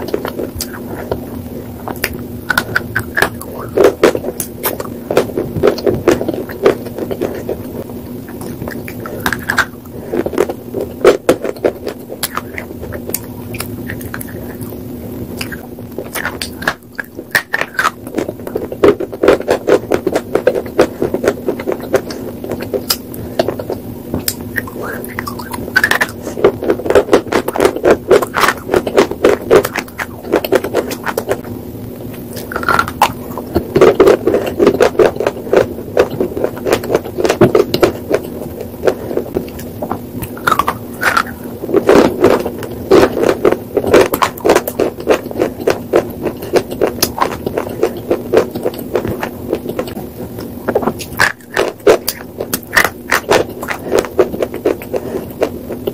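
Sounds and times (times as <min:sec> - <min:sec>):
crunching chewing of chalk: 0:00.0 - 0:31.4, 0:32.1 - 0:55.9
faint steady hum: 0:00.0 - 0:55.9.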